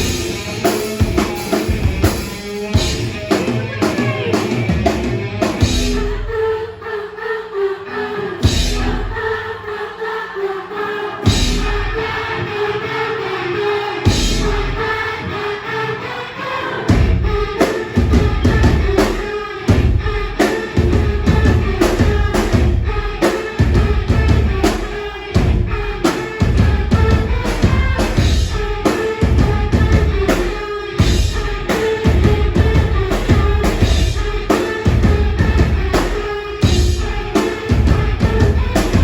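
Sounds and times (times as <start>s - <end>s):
band playing loud: 0.0s - 6.4s, 8.4s - 9.6s, 11.3s - 13.0s, 13.6s - 15.9s, 16.9s - 39.0s
woman singing: 3.3s - 5.0s, 5.6s - 39.0s.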